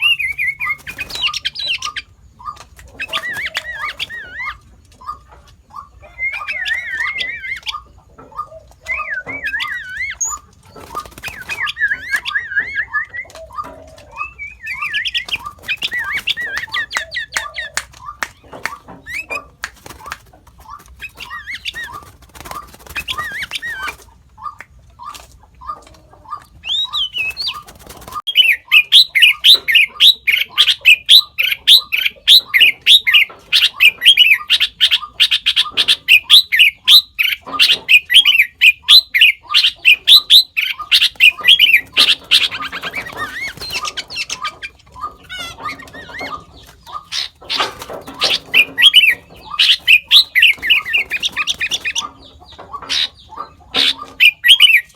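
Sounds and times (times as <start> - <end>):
bird calling: 0.0 - 54.9.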